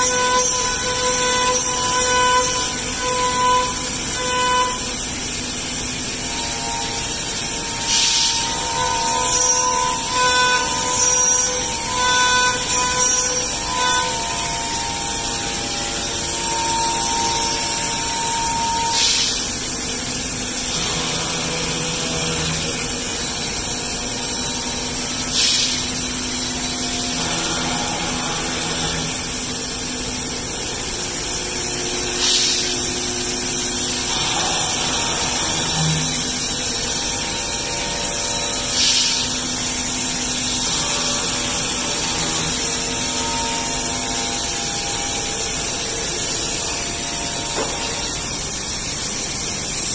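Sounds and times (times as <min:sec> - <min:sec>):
cnc machine running: 0:00.0 - 0:49.9.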